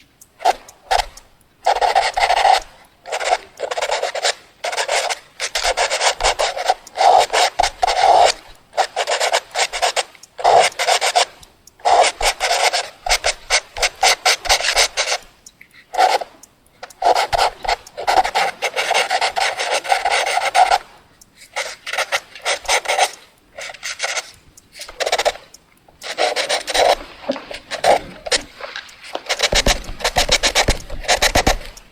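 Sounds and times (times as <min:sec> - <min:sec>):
drawing tool scratching on paper: 0:00.4 - 0:31.9.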